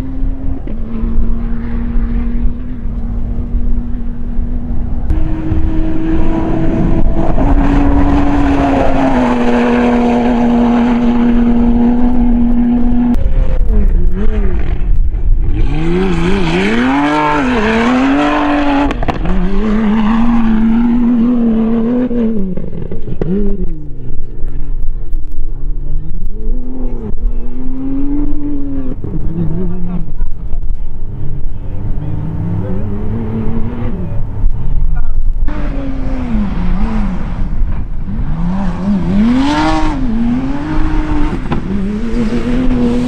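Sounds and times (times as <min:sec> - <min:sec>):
low rumble: 0:00.0 - 0:39.1
car engine at high revs: 0:00.0 - 0:43.0.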